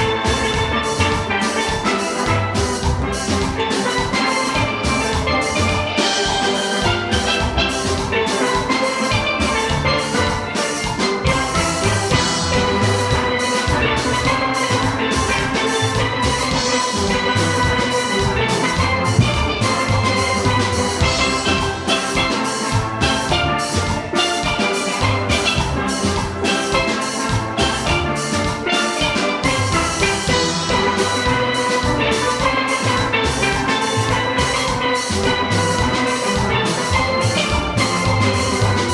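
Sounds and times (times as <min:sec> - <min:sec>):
drum and percussion beat: 0:00.0 - 0:38.9
steelpans playing tuned notes: 0:00.0 - 0:38.9.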